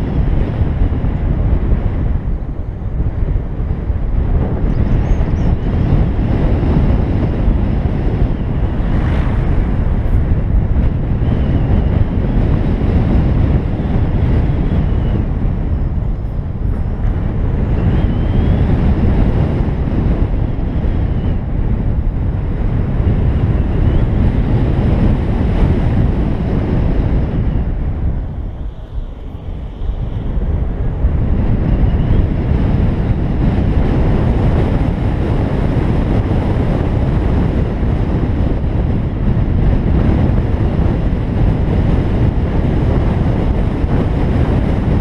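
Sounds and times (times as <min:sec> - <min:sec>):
car road noise: 0:00.0 - 0:44.8
wind buffeting microphone: 0:00.0 - 0:45.0.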